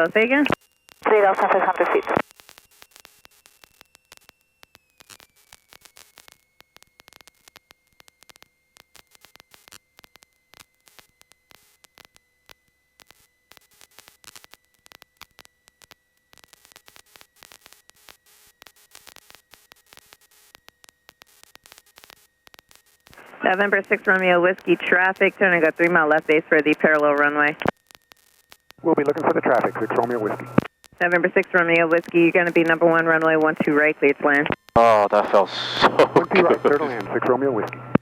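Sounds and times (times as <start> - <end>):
crackling radio static: 0.0 - 4.3, 5.0 - 38.0
faint high electrical whine: 0.0 - 38.0.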